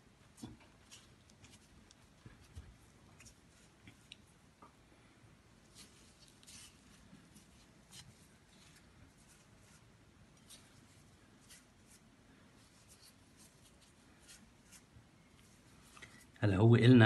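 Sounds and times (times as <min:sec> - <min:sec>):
dry dough strands rustling: 0:00.0 - 0:16.4.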